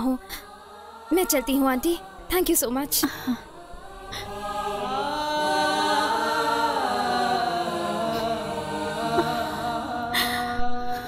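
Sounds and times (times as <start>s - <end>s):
wordless choir-like vocal: 0.0s - 11.0s.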